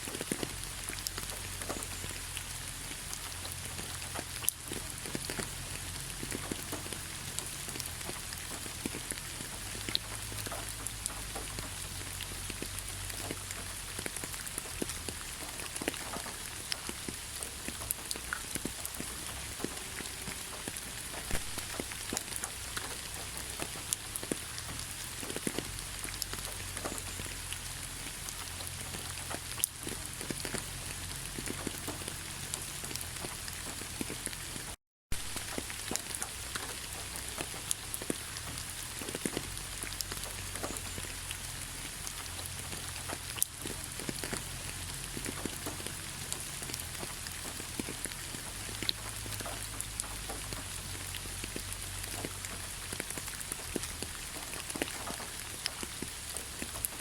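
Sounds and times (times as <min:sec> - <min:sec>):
heavy rain on a surface: 0:00.0 - 0:57.0.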